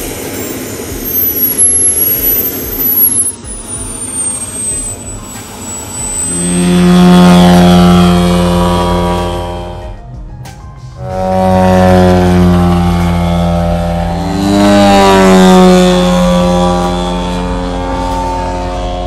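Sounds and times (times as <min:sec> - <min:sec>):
model aircraft engine passing: 0:00.0 - 0:10.0, 0:11.0 - 0:19.0.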